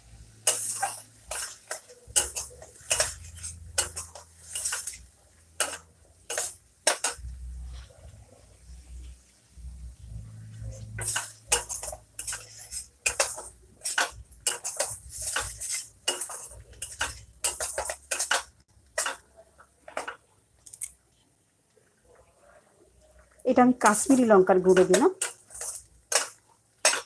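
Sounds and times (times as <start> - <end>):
spice paste frying: 0.0 - 27.0
metal spatula scraping a pan: 0.4 - 9.0, 10.2 - 20.2, 23.8 - 27.0.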